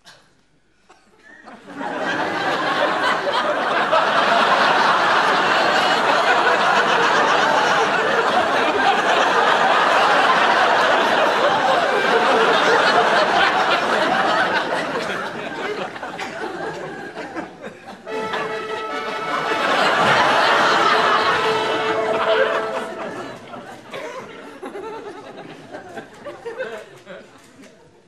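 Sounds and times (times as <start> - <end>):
audience laughing: 1.2 - 28.0.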